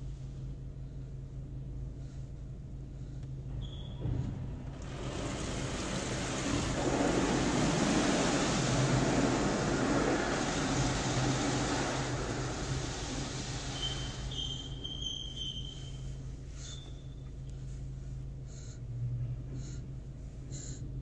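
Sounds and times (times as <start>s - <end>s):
car wash brushes and water rushing: 0.0s - 20.8s
steady low hum: 0.0s - 21.0s.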